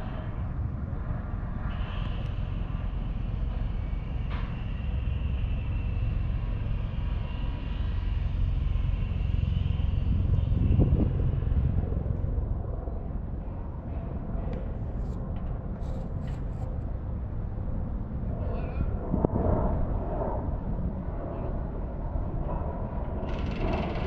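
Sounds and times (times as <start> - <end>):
engine rumble with high whine: 0.0 - 23.9.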